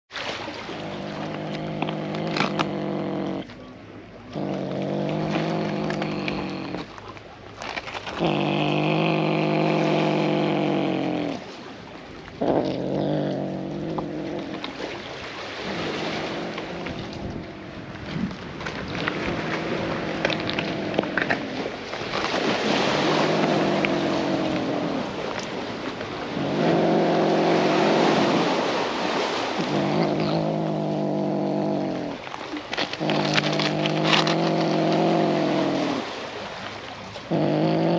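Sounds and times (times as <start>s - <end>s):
cat growling low: 0.5s - 37.9s.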